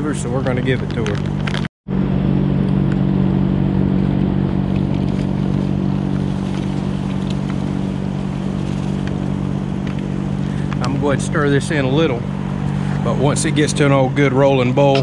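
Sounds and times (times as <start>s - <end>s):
propane burner humming: 2.1s - 15.0s.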